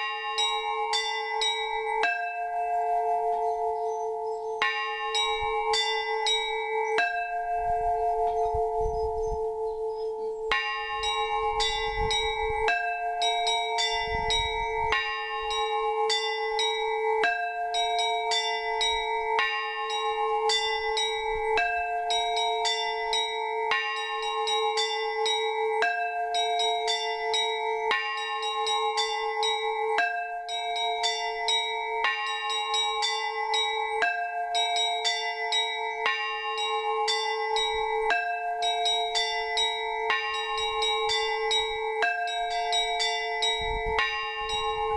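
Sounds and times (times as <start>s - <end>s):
large bell ringing: 0.0s - 44.9s
small church bells ringing: 0.0s - 44.9s.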